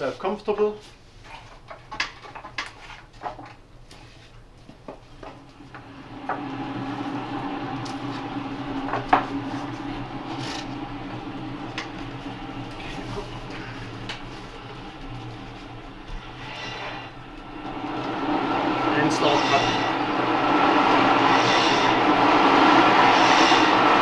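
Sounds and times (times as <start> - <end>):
flywheel whirring hum: 3.4 - 24.0.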